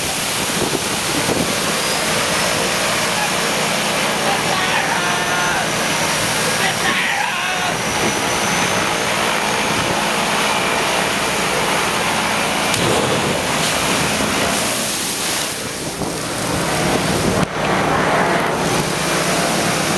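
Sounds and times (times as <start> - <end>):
water spraying and pouring: 0.0 - 19.9
wind noise: 0.0 - 19.9.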